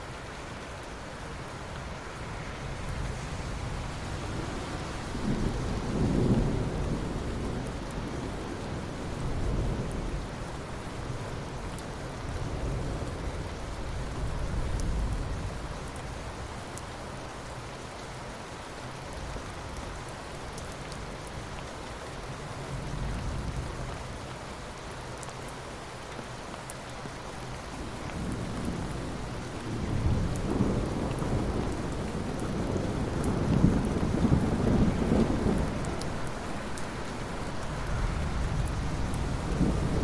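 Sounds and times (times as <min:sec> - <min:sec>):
rain falling on water: 0:00.0 - 0:40.0.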